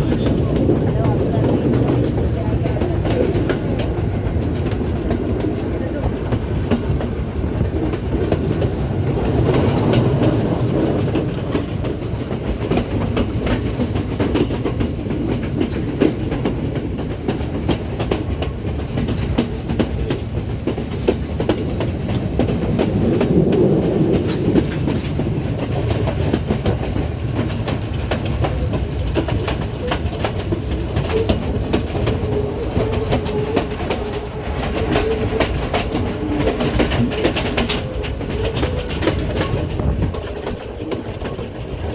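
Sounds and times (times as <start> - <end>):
train rumbling: 0.0 - 41.9
wheels clattering over rail joints: 0.0 - 41.9.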